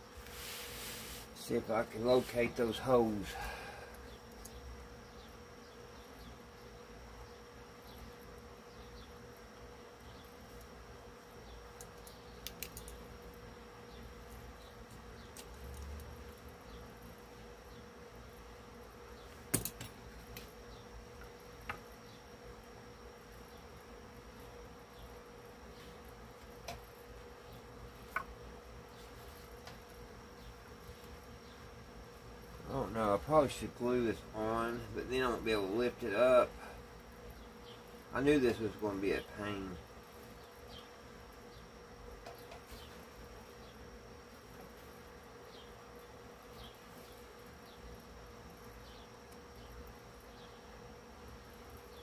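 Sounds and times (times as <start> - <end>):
steady faint hum: 0.0 - 52.0.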